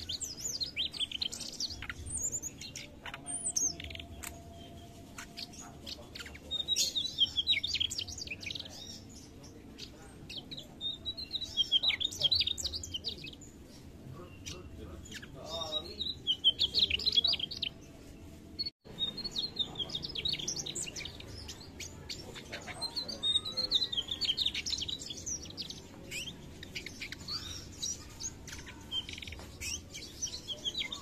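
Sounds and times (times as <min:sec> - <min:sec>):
bird twittering song: 0:00.0 - 0:31.0.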